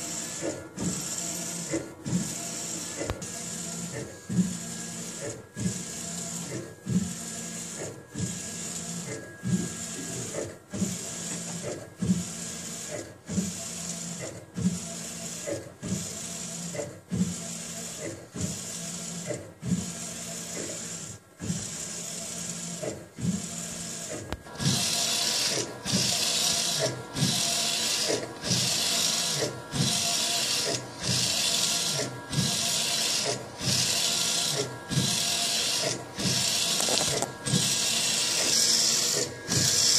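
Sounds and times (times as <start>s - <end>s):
printer carriage whirring: 0.0s - 39.9s.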